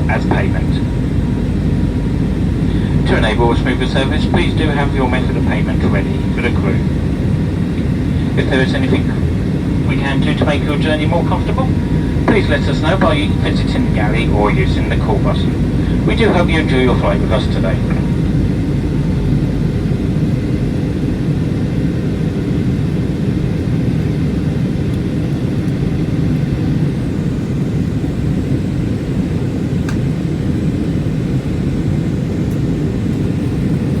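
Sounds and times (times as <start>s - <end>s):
airplane cabin drone in flight: 0.0s - 34.0s.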